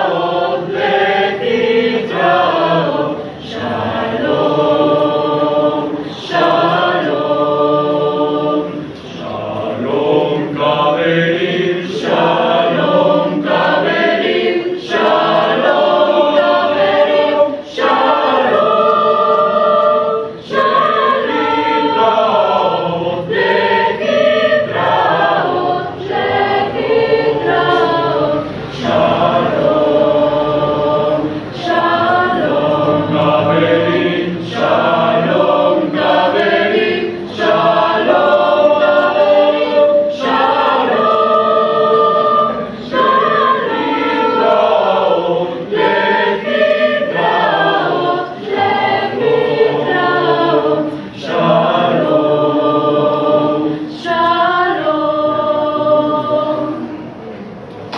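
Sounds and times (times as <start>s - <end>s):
mixed choir singing in harmony: 0.0s - 57.9s.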